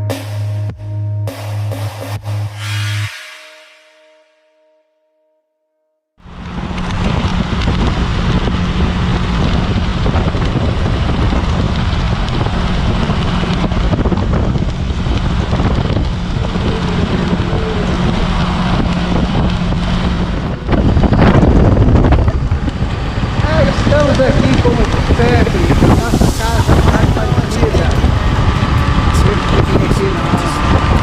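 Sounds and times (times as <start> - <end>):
moving car road and engine noise: 0.0 - 3.8, 6.2 - 31.0.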